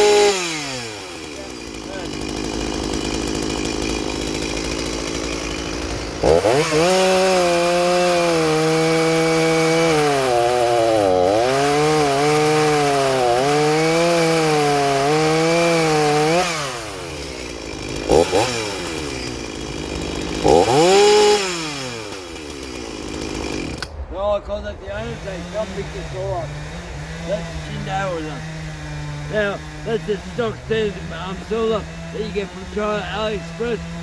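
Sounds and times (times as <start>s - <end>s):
chainsaw idling and revving: 0.0s - 24.0s, 24.9s - 34.0s.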